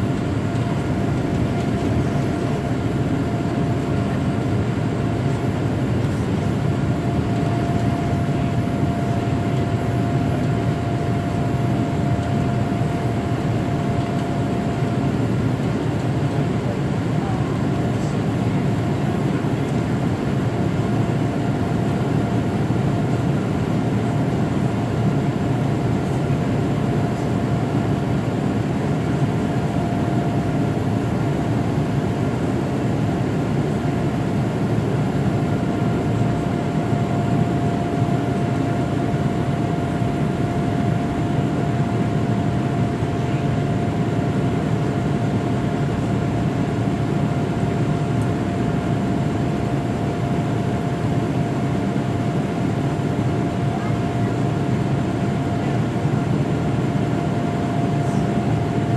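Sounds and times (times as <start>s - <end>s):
airplane cabin engine and airflow rush: 0.0s - 58.9s.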